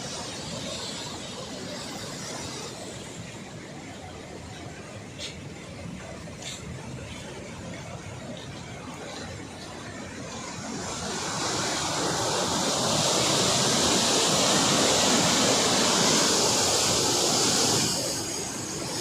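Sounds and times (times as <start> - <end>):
water rushing through spillway: 0.0 - 19.0.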